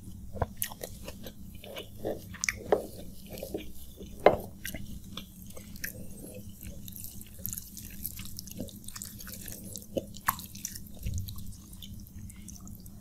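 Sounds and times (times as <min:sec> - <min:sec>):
wet squelching of fingers mashing food: 0:00.0 - 0:13.0
chewing: 0:00.1 - 0:13.0.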